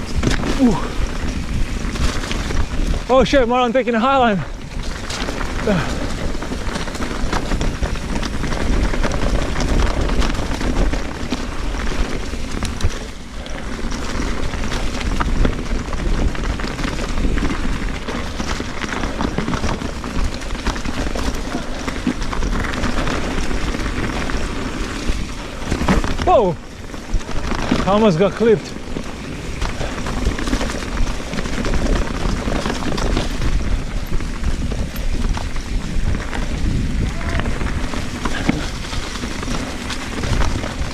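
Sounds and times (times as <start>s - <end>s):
bike tyres clattering over rocks: 0.0s - 40.9s
wind buffeting microphone: 0.0s - 40.9s.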